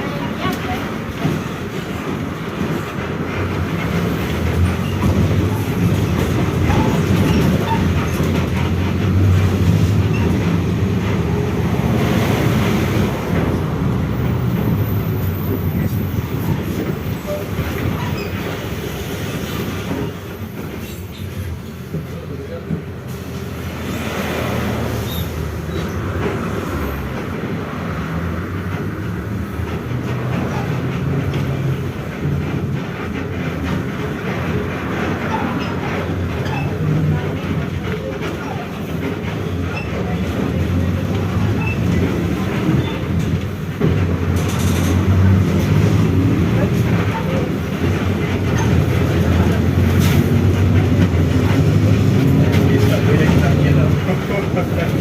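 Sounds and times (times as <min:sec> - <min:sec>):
bus differential growling: 0:00.0 - 0:55.0.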